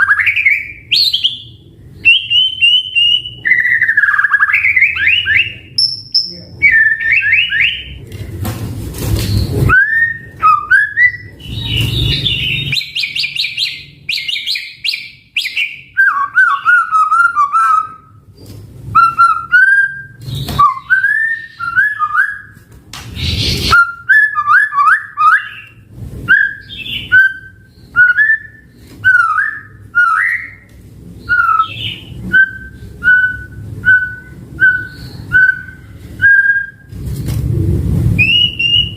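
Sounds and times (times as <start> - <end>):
songbird whistling and trilling: 0.0 - 8.0, 9.4 - 18.1, 19.0 - 22.6, 23.2 - 36.9, 38.2 - 38.9.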